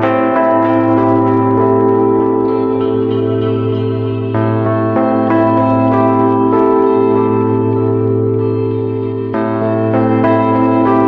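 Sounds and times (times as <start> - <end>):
bell-like chimes: 0.0 - 11.0
sustained background music tones: 0.0 - 11.0.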